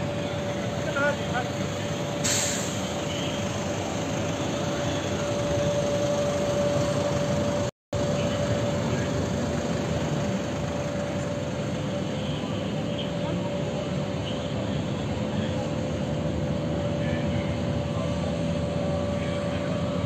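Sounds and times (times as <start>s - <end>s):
aircraft engine with high whine: 0.0s - 20.0s.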